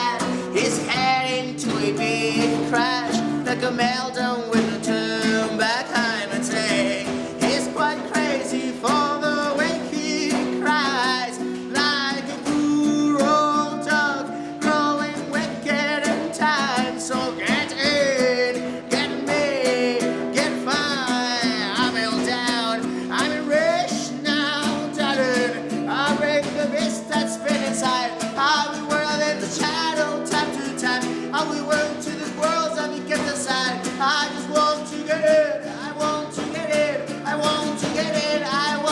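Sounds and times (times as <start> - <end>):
band music with guitar: 0.0 - 38.9
person singing: 0.0 - 38.9.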